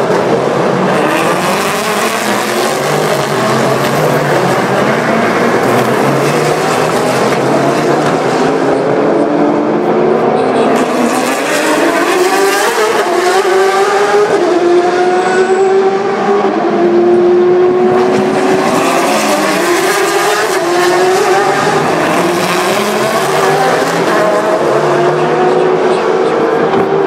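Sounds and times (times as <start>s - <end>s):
racing car engines passing: 0.0s - 27.0s.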